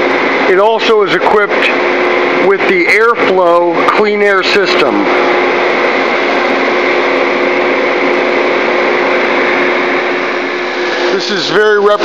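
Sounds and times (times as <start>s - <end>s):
blower rushing air with hum: 0.0s - 12.0s.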